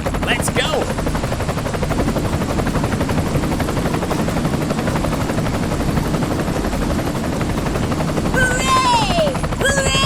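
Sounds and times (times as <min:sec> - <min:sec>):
small engine running with fast pulse: 0:00.0 - 0:10.0.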